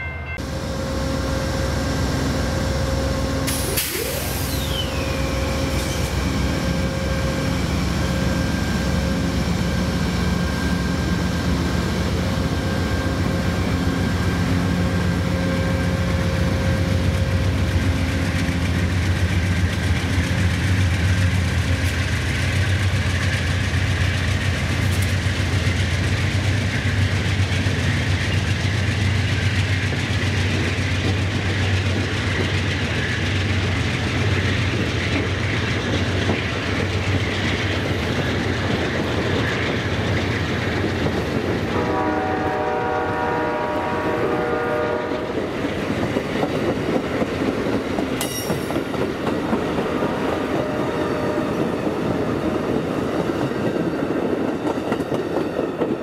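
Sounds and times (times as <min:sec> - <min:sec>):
diesel locomotives running: 0:00.0 - 0:56.0
train cars rolling on rails: 0:00.0 - 0:56.0.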